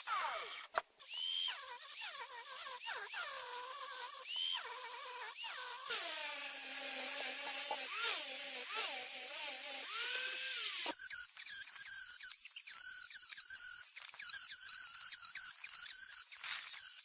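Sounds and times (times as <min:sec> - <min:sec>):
electric power tool whining: 0:00.0 - 0:17.0.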